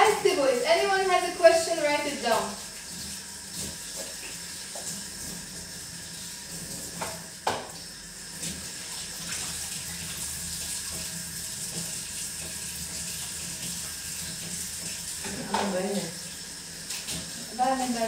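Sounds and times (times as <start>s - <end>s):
tap water running: 0.0s - 18.0s.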